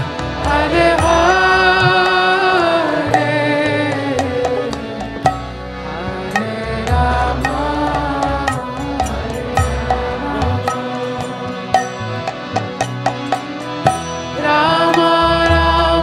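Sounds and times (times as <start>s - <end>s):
chanted singing: 0.0s - 12.6s, 14.4s - 16.0s
sharp percussive strikes: 0.0s - 15.8s
hand drum: 0.0s - 16.0s.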